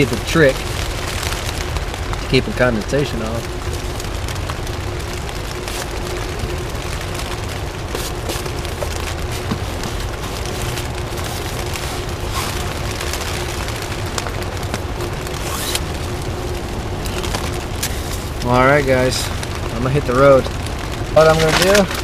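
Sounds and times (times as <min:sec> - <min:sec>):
low rumble: 0:00.0 - 0:22.0
rain patter on plastic sheeting: 0:00.0 - 0:22.0.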